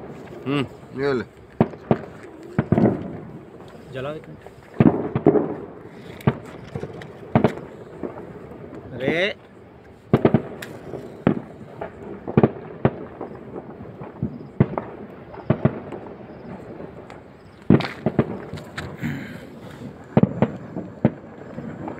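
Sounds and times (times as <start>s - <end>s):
sharp pops and cracks: 0.0s - 21.9s.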